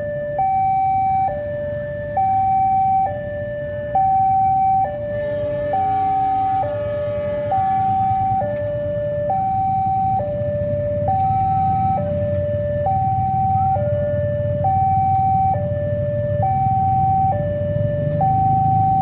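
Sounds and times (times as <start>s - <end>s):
level crossing siren alternating tones: 0.0s - 19.0s.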